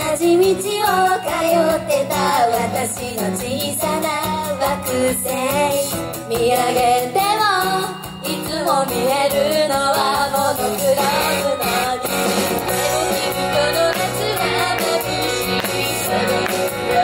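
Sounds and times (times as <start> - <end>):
backing track: 0.0 - 17.0
women singing pop song: 0.0 - 17.0.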